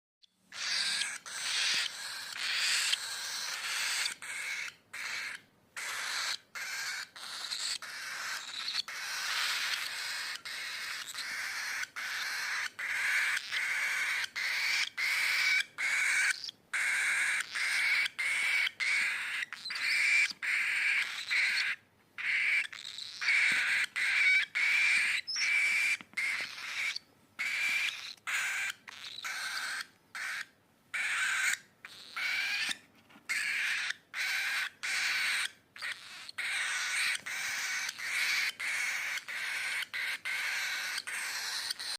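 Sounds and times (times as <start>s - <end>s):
cockatiel chirping and whistling: 0.5s - 41.9s.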